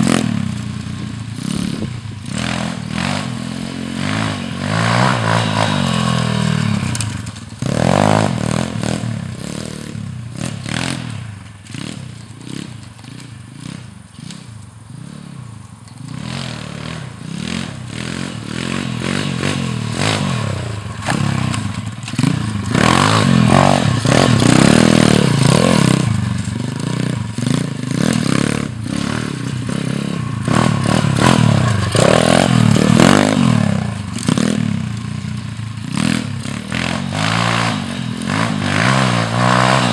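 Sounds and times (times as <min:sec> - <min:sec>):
pitbike engine revving: 0:00.0 - 0:15.4, 0:16.0 - 0:39.9.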